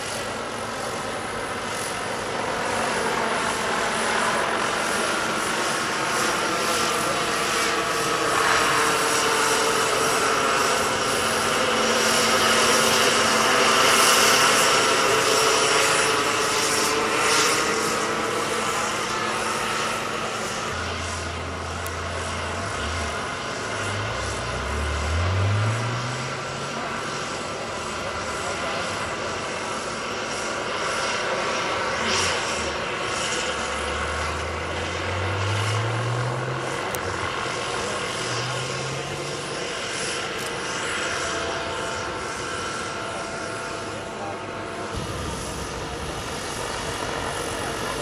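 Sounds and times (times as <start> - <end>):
helicopter rotor noise: 0.0 - 48.0
model helicopter turbine whine: 0.0 - 48.0.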